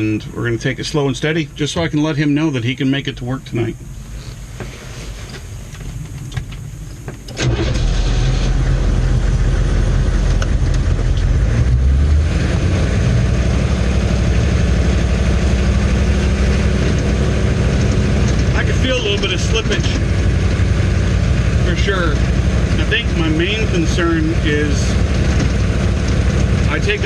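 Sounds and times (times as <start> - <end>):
diesel engine: 0.0 - 27.0.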